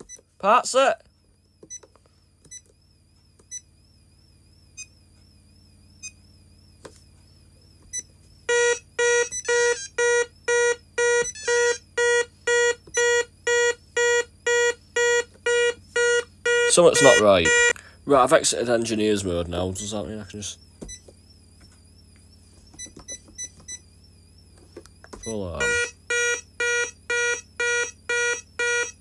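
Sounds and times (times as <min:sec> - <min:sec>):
alarm panel pulsing tone: 0:00.0 - 0:29.0.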